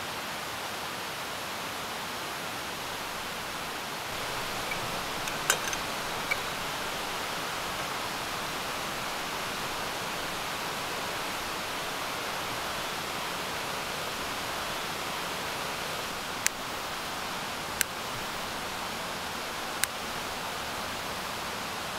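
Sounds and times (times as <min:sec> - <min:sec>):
mountain stream rushing: 0:00.0 - 0:21.9.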